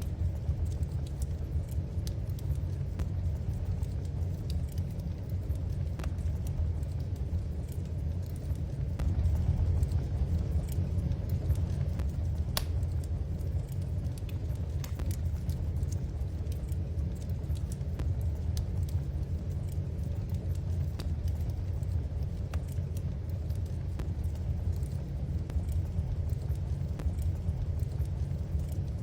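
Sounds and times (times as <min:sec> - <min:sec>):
fireplace crackles and pops: 0:00.0 - 0:29.0
steady low rumble: 0:00.0 - 0:29.0.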